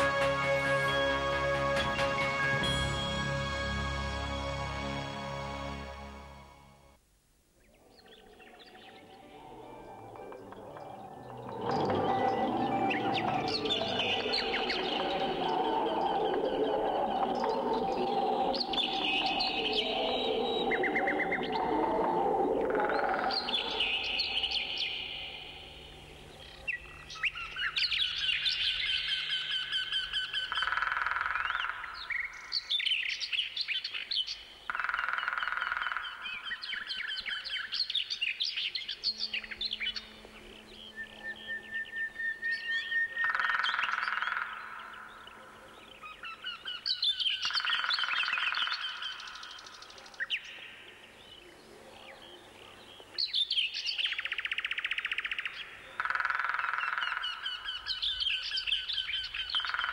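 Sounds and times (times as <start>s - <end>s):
songbirds singing: 7.6s - 59.9s.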